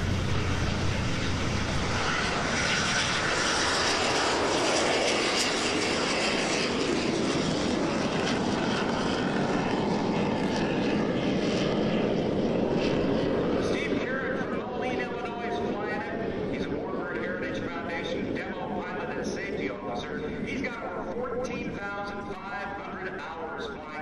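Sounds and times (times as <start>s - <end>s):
jet engine taking off: 0.0s - 24.0s.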